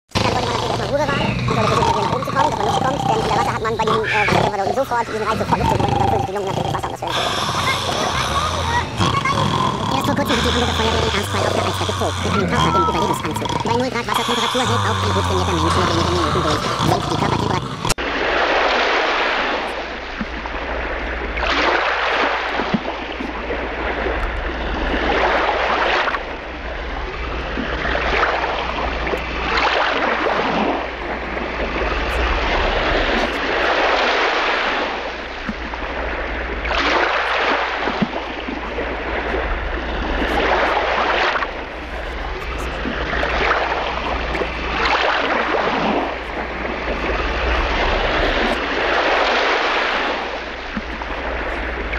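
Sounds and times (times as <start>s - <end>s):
steady low hum: 0.1s - 18.6s, 22.5s - 51.9s
water lapping against boat hull: 0.1s - 51.9s.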